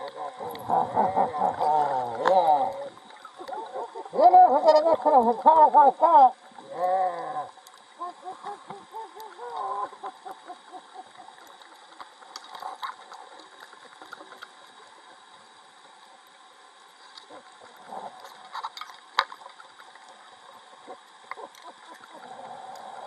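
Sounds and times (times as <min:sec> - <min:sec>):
faint muffled underwater sounds: 0:00.0 - 0:23.0.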